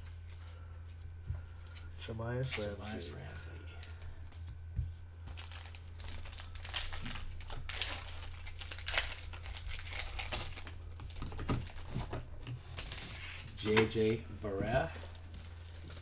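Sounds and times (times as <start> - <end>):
low steady hum: 0.0 - 16.0
cards and wrappers crinkling: 1.6 - 4.1, 5.2 - 16.0.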